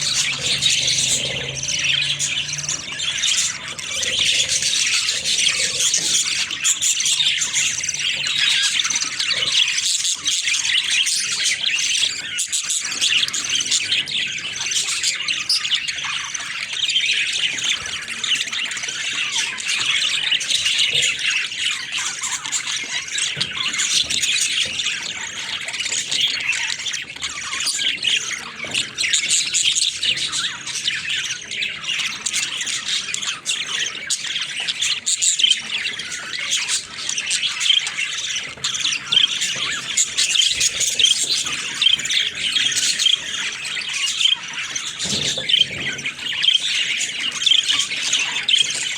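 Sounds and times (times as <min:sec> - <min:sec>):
budgerigars chattering and squawking: 0:00.0 - 0:48.9.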